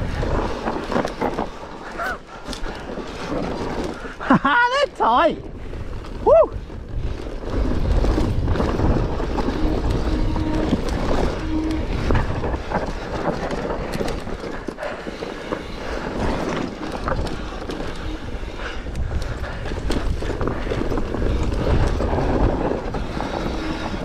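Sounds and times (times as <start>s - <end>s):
bike clattering: 0.0s - 4.5s, 5.4s - 24.0s
tyres rolling over gravel: 0.0s - 4.9s, 5.5s - 24.0s.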